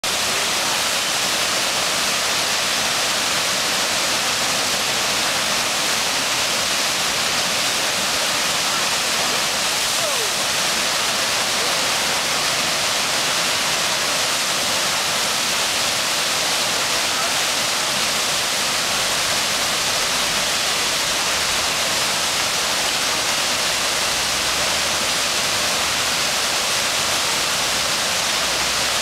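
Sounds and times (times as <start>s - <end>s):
whitewater rushing: 0.0s - 29.0s.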